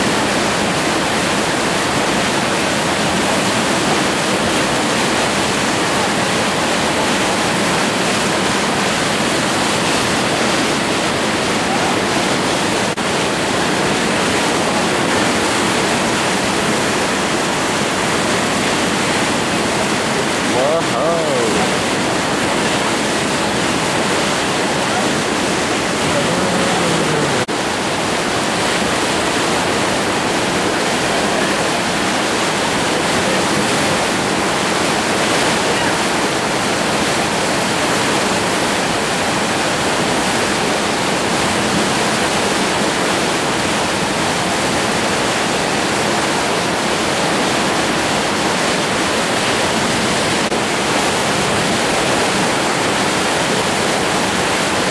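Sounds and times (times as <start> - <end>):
river rapids rushing: 0.0 - 54.9.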